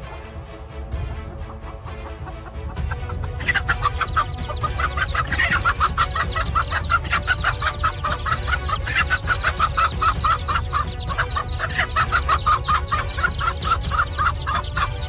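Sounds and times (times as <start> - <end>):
hen clucking rapidly: 0.8 - 15.0
chicks peeping: 1.4 - 15.0.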